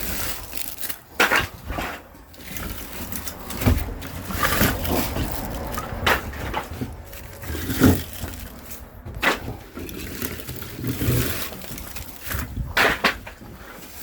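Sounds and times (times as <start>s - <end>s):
low steady rumble: 0.0s - 13.7s
firewood logs knocking: 0.0s - 14.0s.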